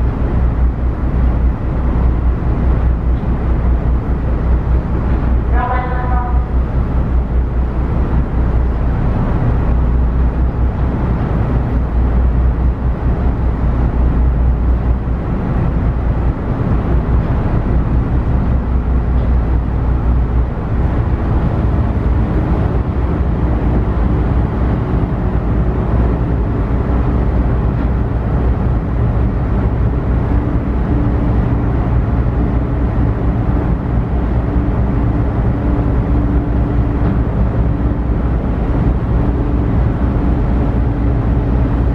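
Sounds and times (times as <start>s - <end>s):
ferry engine rumble: 0.0s - 41.9s
steady hum: 0.0s - 41.9s.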